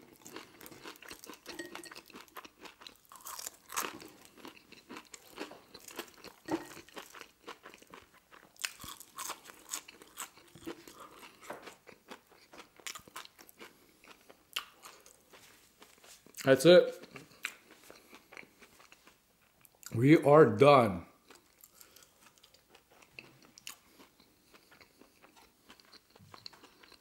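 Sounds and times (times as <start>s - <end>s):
chewing crunches: 0.0s - 20.0s, 21.2s - 27.0s.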